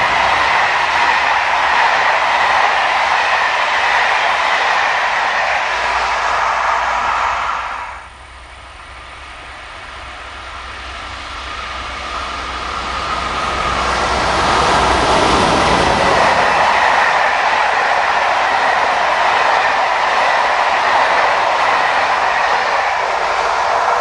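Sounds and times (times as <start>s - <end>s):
passenger train passing at speed: 0.0s - 24.0s.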